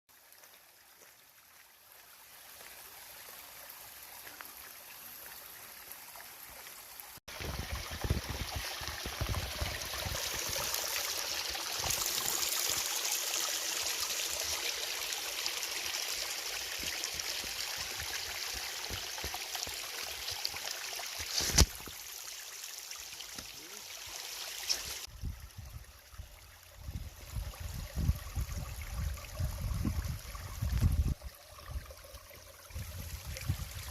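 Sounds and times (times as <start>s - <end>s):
stream water running: 0.1s - 33.9s.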